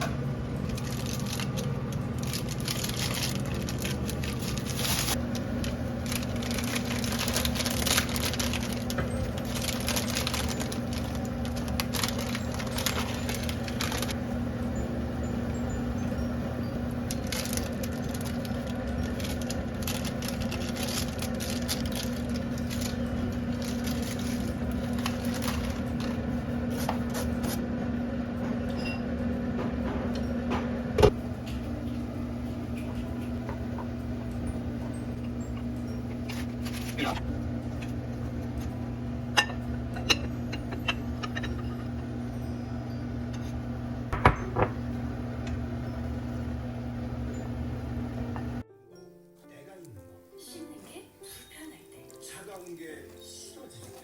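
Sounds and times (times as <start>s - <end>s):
low electrical hum: 0.0s - 48.6s.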